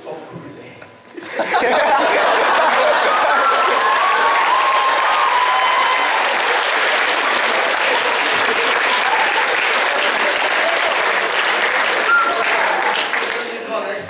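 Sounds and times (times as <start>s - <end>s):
audience applause: 1.4s - 13.7s.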